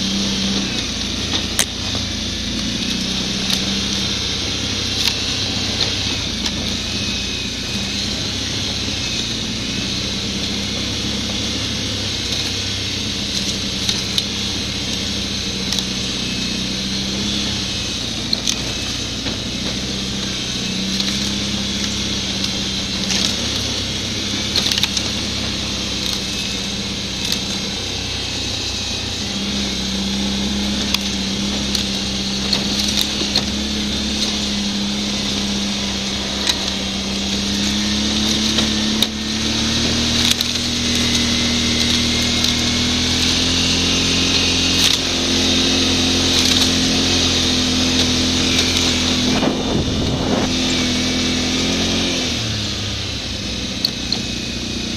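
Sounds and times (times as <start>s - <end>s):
atv engine running: 0.0s - 54.9s.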